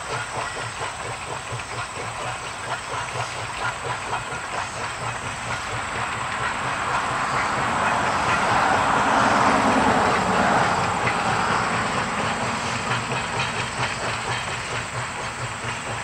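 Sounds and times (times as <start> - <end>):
steam train rushing hiss: 0.0 - 16.0
train rail clatter: 0.0 - 16.0.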